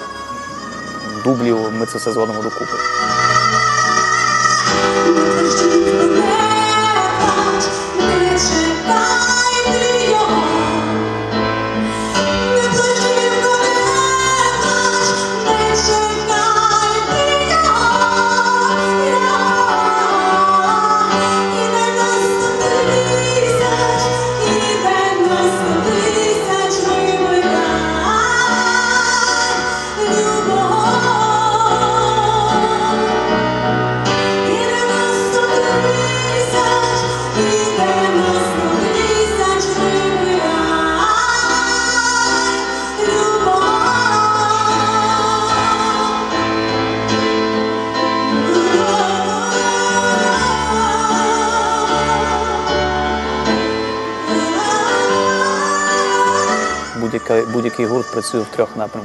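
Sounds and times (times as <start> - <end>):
electronic keyboard chords: 0.0 - 57.0
woman singing into microphone: 0.0 - 59.0.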